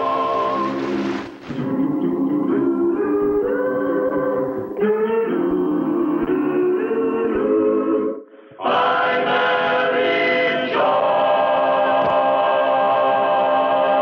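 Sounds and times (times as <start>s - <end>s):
choir singing with orchestra: 0.0s - 14.0s.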